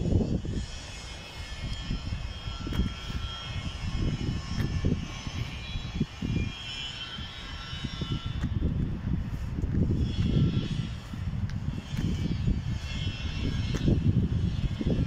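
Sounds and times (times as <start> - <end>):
distant aircraft turbine whine: 0.0 - 15.0
wind buffeting microphone: 0.0 - 15.0.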